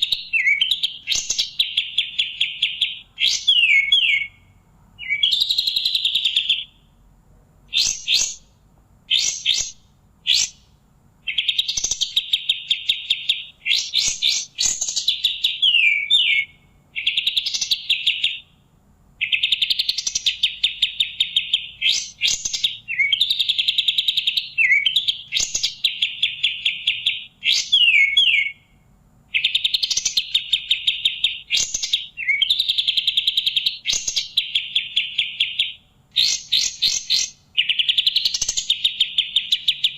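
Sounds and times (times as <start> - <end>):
songbird chattering trills: 0.0 - 6.9, 7.7 - 8.5, 9.1 - 18.6, 19.2 - 28.6, 29.3 - 39.9.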